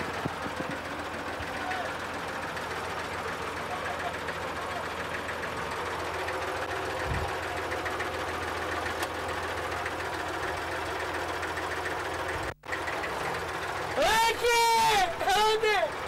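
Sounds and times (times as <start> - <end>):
tractor engine knocking: 0.0 - 16.0.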